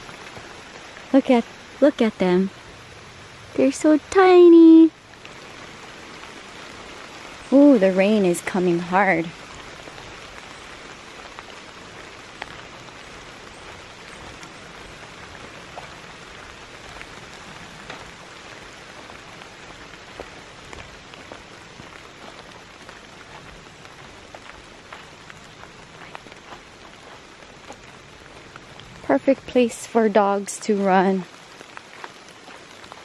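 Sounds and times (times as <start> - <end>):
close raindrop hits: 0.0 - 33.0
heavy rain pattering: 0.0 - 33.0.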